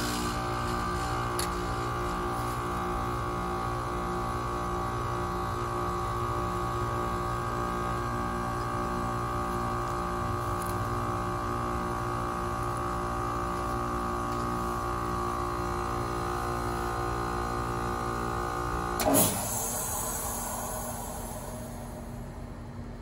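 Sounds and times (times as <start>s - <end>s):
heat pump compressor humming: 0.0s - 23.0s.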